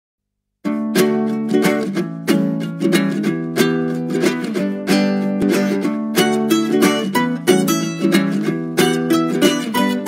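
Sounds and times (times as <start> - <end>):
plucked-string chords music: 0.6 - 10.0.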